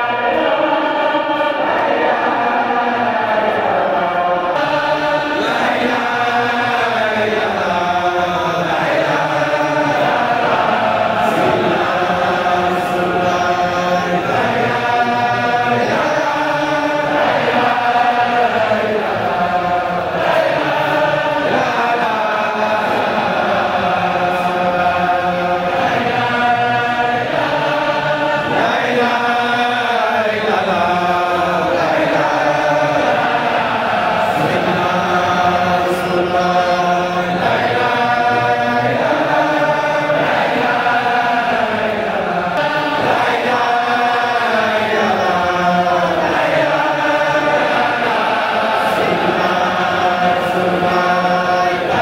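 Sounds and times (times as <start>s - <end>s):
men chanting in unison: 0.0s - 52.0s.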